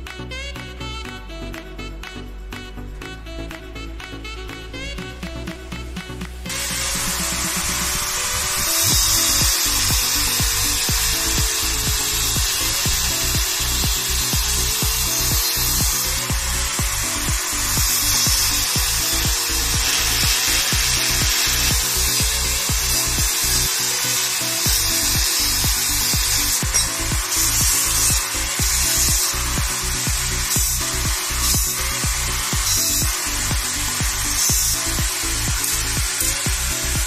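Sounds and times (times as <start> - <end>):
background music: 0.0 - 37.0
power tool hissing on steel: 4.8 - 37.0.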